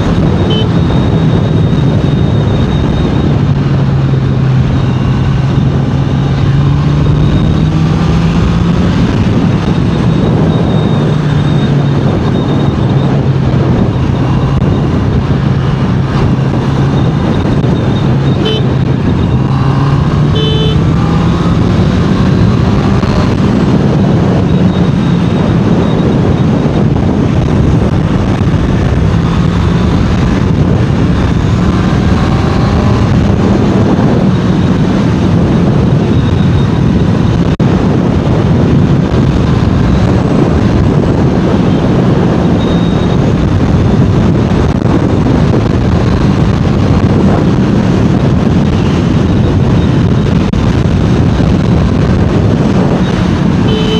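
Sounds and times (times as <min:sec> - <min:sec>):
motorcycle engine cruising: 0:00.0 - 0:53.9
wind rush: 0:00.0 - 0:53.9.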